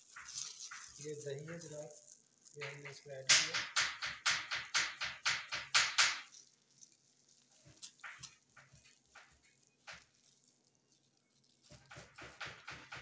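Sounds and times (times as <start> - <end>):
plastic bag crinkling: 0.0 - 13.0
yogurt squelching: 0.0 - 13.0.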